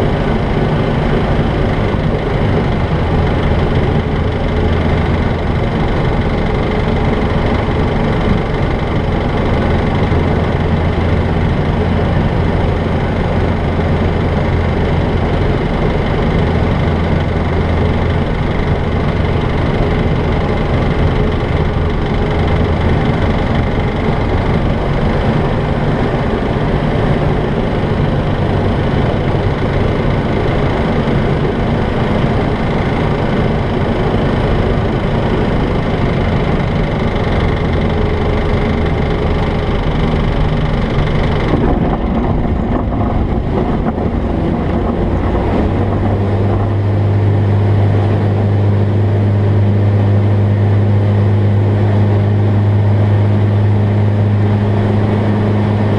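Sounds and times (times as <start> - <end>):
light aircraft engine droning: 0.0 - 55.9.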